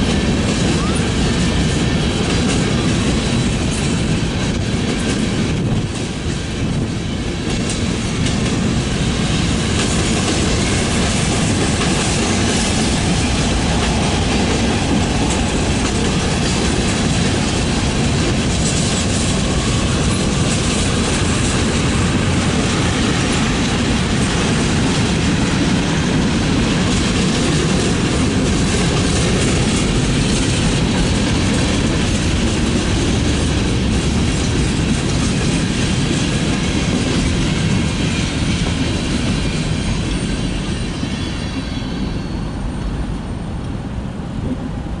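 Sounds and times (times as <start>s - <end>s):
wheels clicking over rail joints: 0.0s - 40.6s
freight train cars rolling past: 0.0s - 45.0s.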